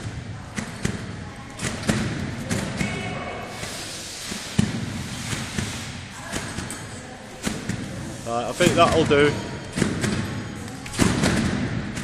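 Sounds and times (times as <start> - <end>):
feet thumping on trampoline: 0.0 - 10.4.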